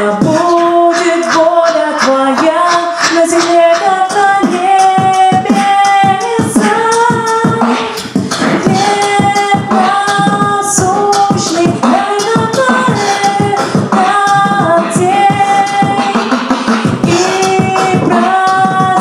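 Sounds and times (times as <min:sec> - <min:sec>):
man beatboxing: 0:00.0 - 0:19.0.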